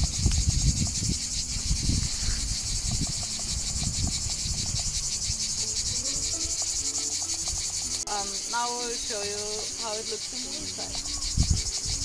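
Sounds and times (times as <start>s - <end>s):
insects chorus pulsing: 0.0s - 12.0s.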